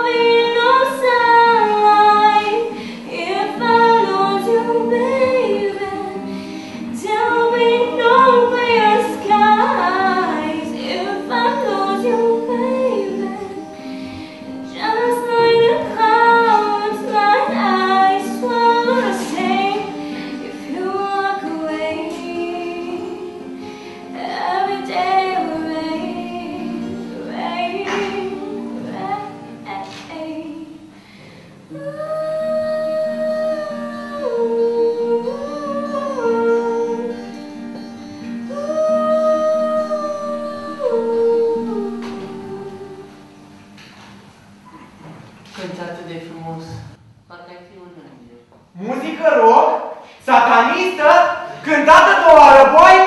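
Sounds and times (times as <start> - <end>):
girl singing: 0.0 - 30.9, 31.6 - 43.2
acoustic guitar chords: 0.0 - 45.8, 49.0 - 53.0.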